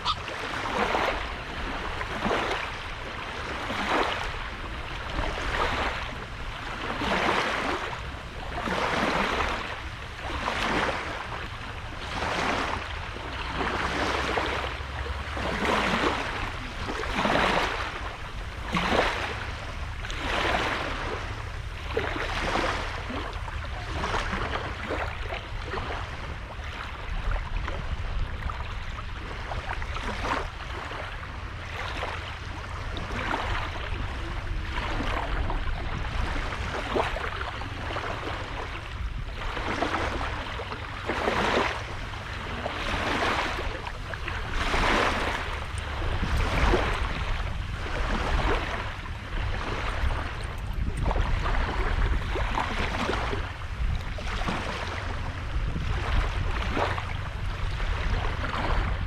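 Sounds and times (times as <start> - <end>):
small waves washing onto beach: 0.0 - 59.0.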